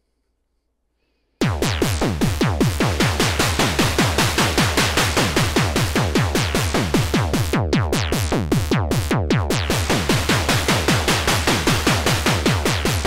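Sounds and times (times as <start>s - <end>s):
synthesizer drum hits: 1.4s - 13.0s.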